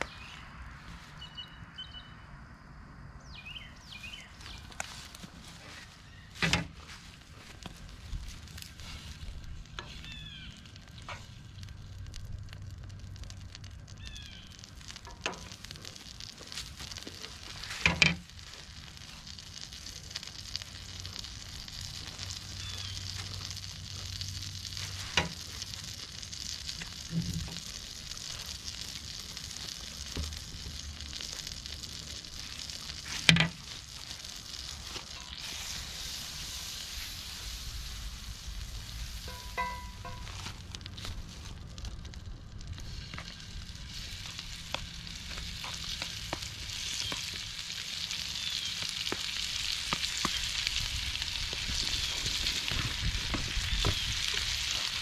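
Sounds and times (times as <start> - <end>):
butter sizzling in skillet: 3.9 - 55.0.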